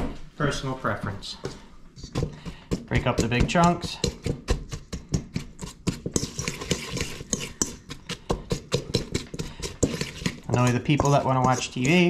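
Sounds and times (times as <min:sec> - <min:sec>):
utensil scraping metal bowl: 0:01.4 - 0:12.0.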